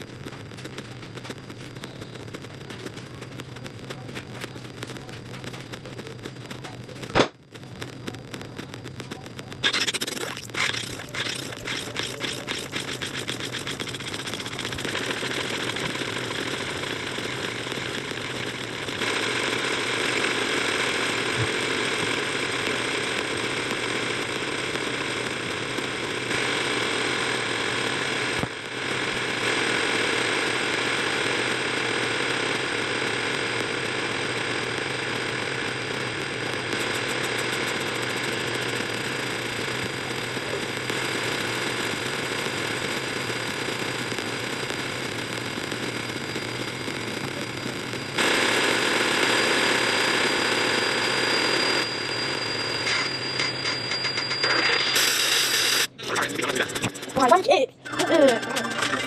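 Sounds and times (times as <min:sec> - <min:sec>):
harsh distorted noise: 0:00.0 - 0:59.0.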